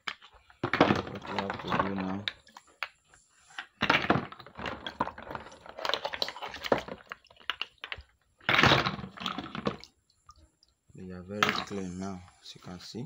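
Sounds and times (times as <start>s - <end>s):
snail shells clacking and scraping: 0.0s - 12.4s.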